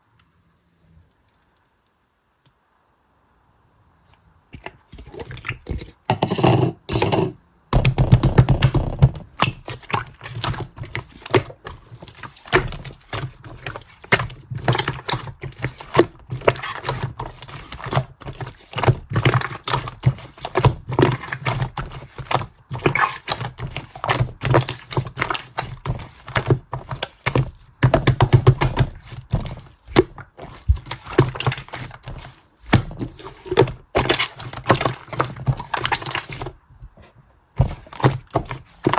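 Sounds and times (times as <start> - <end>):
slime squishes: 4.6 - 38.9.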